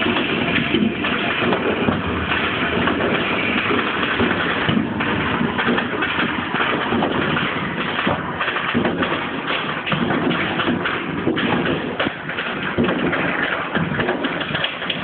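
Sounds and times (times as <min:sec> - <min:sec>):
firecrackers and fireworks exploding: 0:00.0 - 0:15.0.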